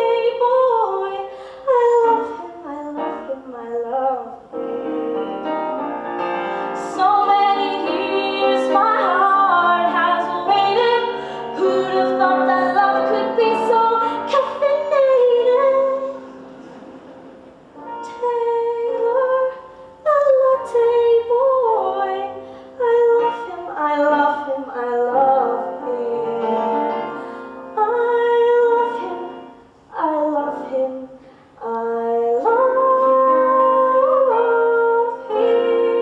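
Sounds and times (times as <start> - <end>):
woman singing: 0.0 - 6.0, 6.6 - 16.3, 17.8 - 27.2, 27.8 - 36.0
piano accompaniment: 0.0 - 36.0.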